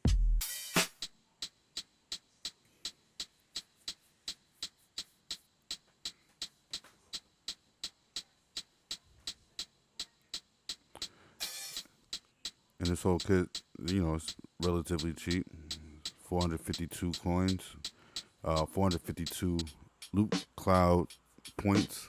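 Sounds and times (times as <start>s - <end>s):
light hi-hat hits: 0.0s - 22.0s.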